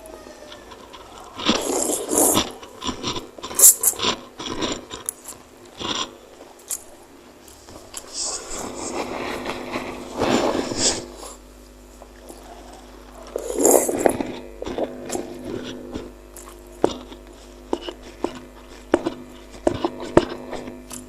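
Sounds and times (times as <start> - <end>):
person chewing food: 0.0 - 11.4, 12.0 - 21.0.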